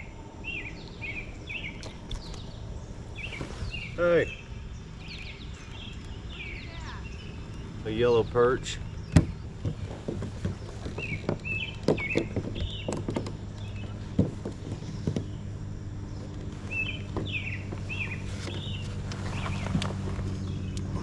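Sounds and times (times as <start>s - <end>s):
songbird chirping: 0.0s - 21.0s
steady low hum: 0.0s - 21.0s.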